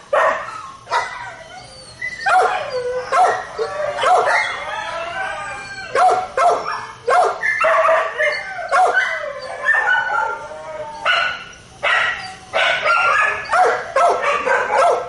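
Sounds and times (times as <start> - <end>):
dog barking and yipping: 0.1 - 1.4, 2.1 - 4.8, 5.9 - 15.0.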